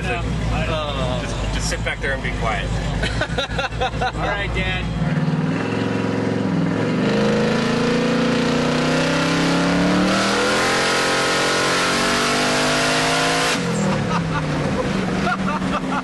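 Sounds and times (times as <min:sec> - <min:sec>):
engine under hard acceleration: 0:00.0 - 0:16.0.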